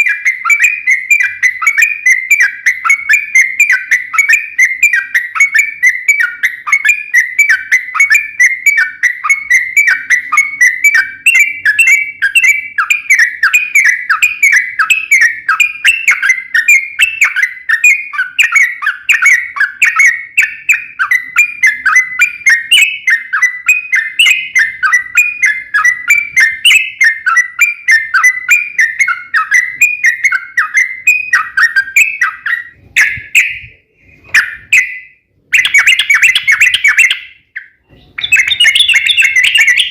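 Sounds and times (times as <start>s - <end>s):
bird singing whistled chirps: 0.0s - 39.9s.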